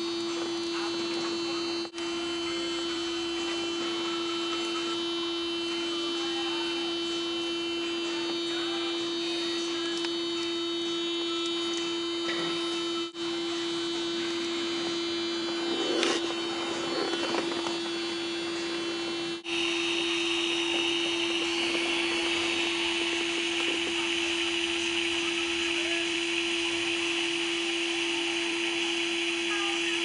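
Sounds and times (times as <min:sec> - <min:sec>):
heat gun motor hum: 0:00.0 - 0:30.0.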